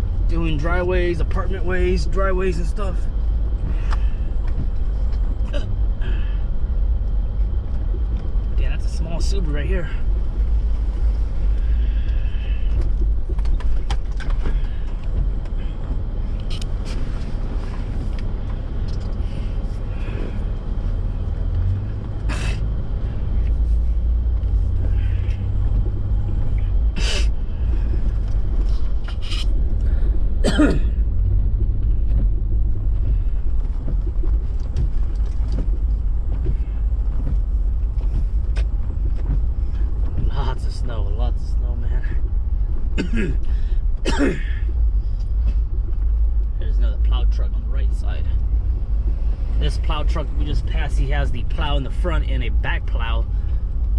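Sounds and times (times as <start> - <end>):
vehicle rumble on snowy road: 0.0 - 53.9.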